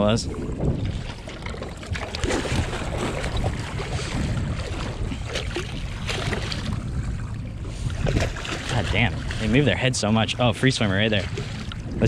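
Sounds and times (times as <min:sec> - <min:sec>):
low rumble of wind and water: 0:00.0 - 0:12.0.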